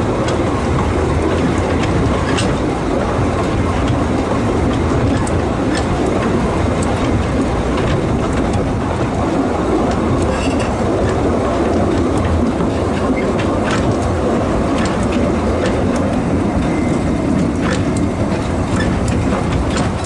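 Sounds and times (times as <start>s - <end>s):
wheels rumbling on track: 0.0s - 20.0s.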